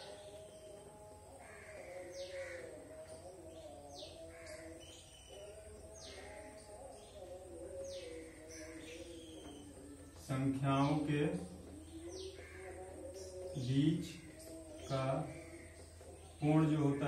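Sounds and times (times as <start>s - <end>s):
birds calling: 0.0s - 17.0s
low wavering bird tones: 0.0s - 17.0s.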